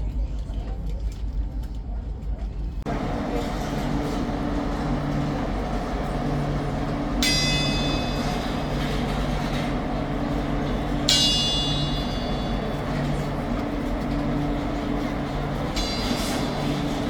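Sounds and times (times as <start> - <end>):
train humming at station: 1.2 - 17.0
bright metallic ring: 2.9 - 17.0.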